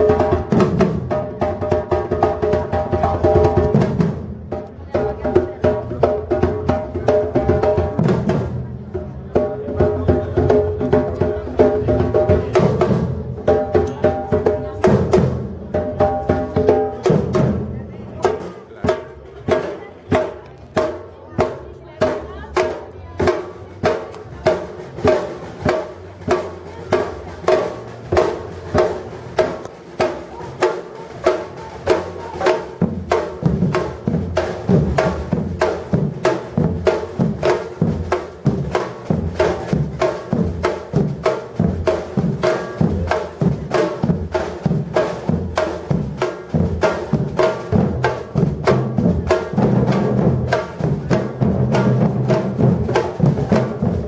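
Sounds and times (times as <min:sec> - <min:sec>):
percussion ensemble drumming: 0:00.0 - 0:54.0.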